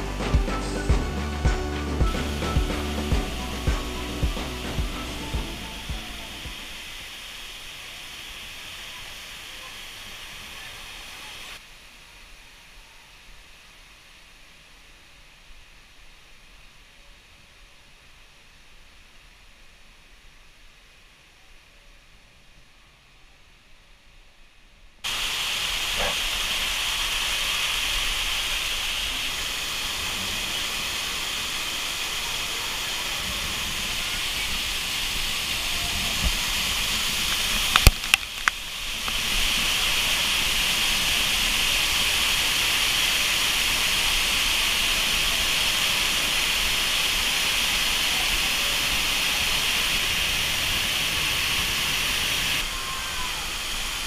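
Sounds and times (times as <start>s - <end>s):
waterfall rushing: 0.0s - 17.3s, 25.1s - 54.0s.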